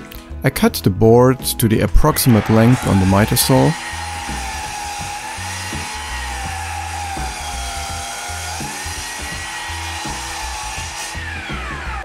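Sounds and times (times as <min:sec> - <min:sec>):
background music with bass: 0:00.0 - 0:12.0
miter saw cutting wood: 0:02.2 - 0:12.0.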